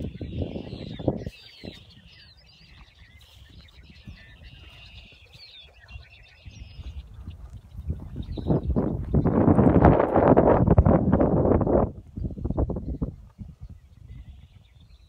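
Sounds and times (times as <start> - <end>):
flock of birds chattering: 0.0 - 15.0.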